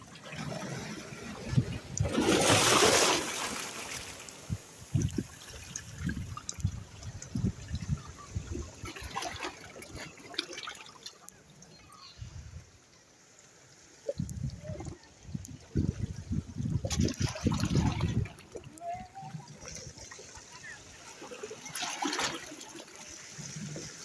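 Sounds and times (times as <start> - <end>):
seawater splashing and lapping: 0.0 - 24.0
water trickling: 0.0 - 24.0.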